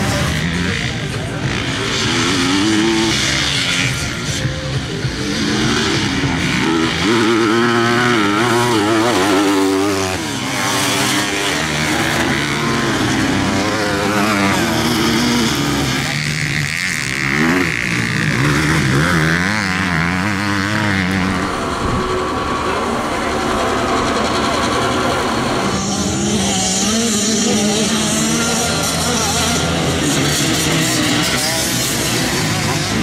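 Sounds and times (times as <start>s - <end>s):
racing motorcycle engines revving: 0.0s - 33.0s.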